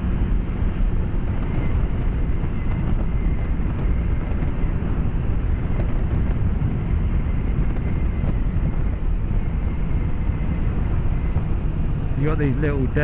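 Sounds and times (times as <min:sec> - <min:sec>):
motorcycle engine running: 0:00.0 - 0:11.9
wind rush: 0:00.0 - 0:13.0.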